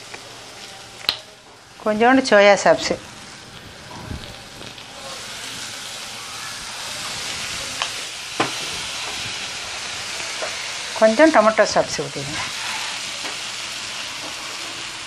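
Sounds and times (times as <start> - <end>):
vegetables sizzling in a wok: 0.0 - 15.0.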